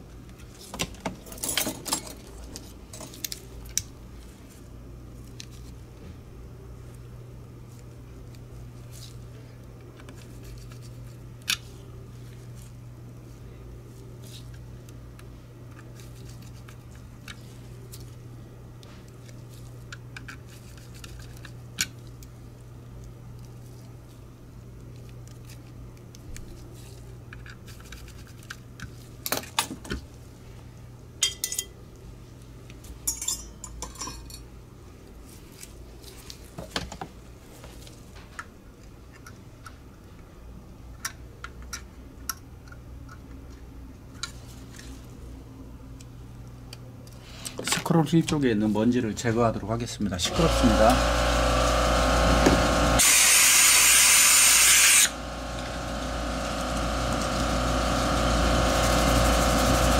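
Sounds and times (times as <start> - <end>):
steady low hum: 0.0 - 29.3, 30.0 - 59.9.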